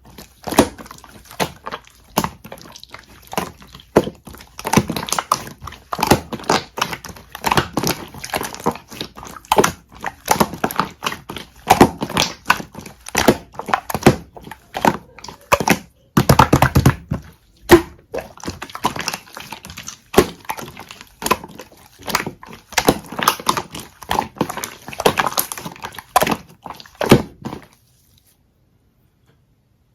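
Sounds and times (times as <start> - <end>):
slime squishing and popping: 0.0 - 27.8.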